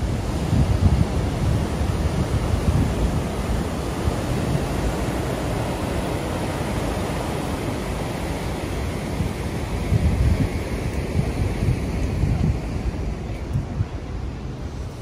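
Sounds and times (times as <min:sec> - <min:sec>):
surf breaking on rocky shore: 0:00.0 - 0:15.0
wind buffeting microphone: 0:00.0 - 0:15.0.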